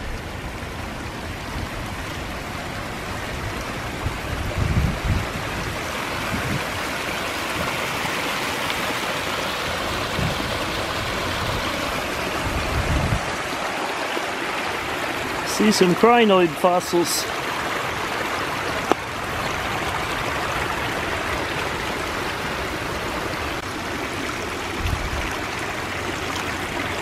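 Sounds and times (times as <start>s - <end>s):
creek rushing: 0.0s - 27.0s.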